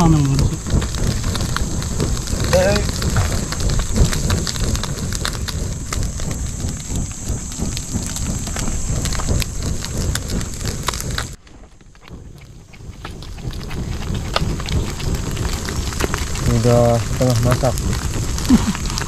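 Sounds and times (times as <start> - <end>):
fish grilling: 0.0 - 19.0
wood fire crackling and popping: 0.0 - 19.0.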